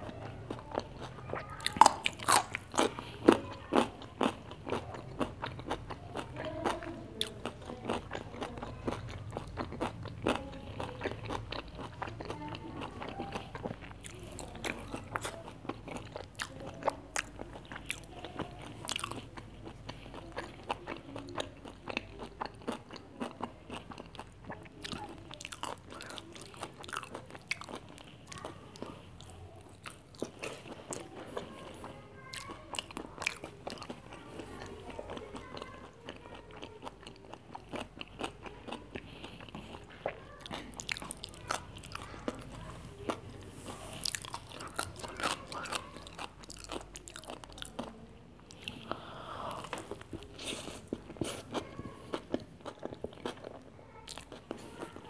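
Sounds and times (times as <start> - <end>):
chewing with wet mouth sounds: 0.0 - 55.0.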